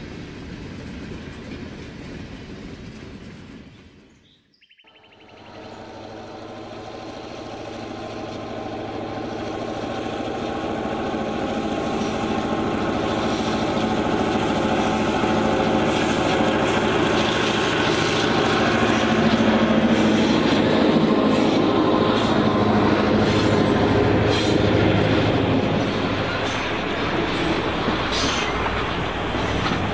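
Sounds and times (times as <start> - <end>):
wheels clicking on track: 0.0 - 4.1, 5.2 - 29.9
model train running on track: 0.0 - 4.2, 5.0 - 29.9.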